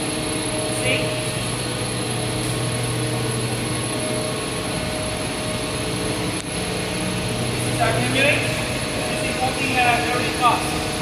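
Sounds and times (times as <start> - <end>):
low steady drone: 0.0 - 11.0
machine whir and hum: 0.0 - 11.0.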